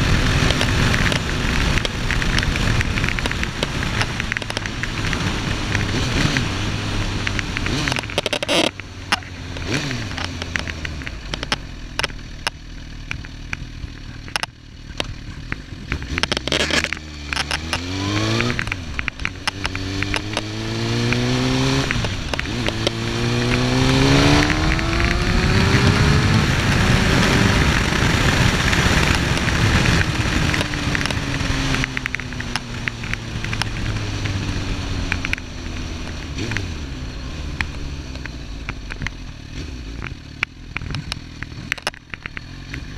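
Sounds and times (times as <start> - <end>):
crackling and clicking audio: 0.0 - 42.9
motorcycle engine accelerating: 0.0 - 42.9.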